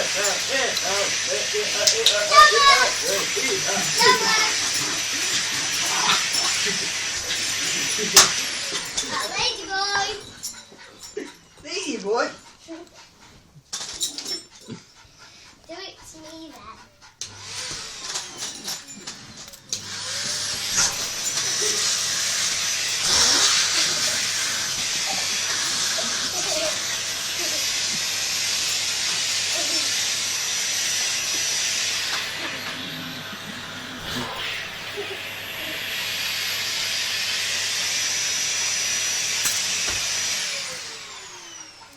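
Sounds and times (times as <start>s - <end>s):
vacuum cleaner running: 0.0s - 12.4s, 17.2s - 41.9s.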